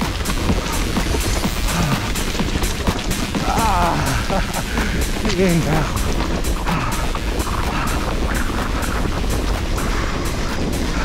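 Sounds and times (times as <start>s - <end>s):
background music: 0.0s - 11.0s
wind buffeting microphone: 0.0s - 11.0s.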